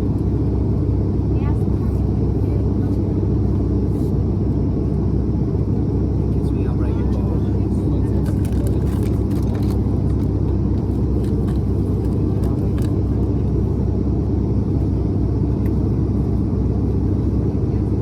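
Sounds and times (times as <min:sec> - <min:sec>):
turboprop engines droning: 0:00.0 - 0:18.0.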